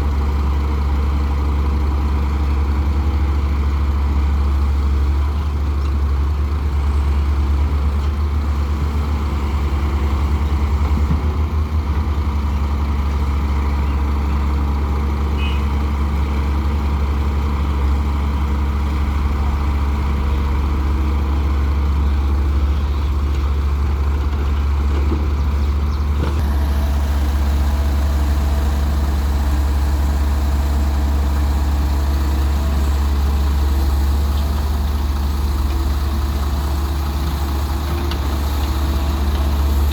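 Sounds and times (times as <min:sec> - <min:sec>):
diesel excavator engine droning: 0:00.0 - 0:39.9.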